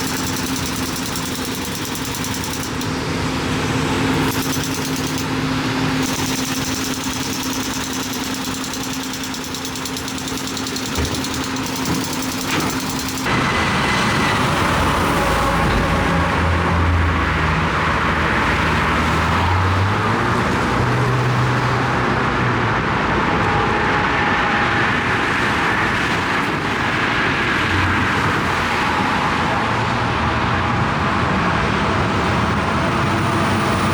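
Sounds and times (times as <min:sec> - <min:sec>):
heavy construction machinery running: 0:00.0 - 0:33.9.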